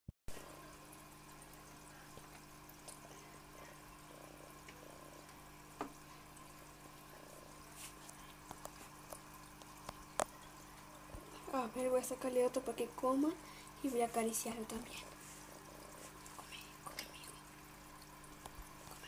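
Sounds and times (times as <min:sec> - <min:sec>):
aquarium air pump humming: 0:00.3 - 0:19.0.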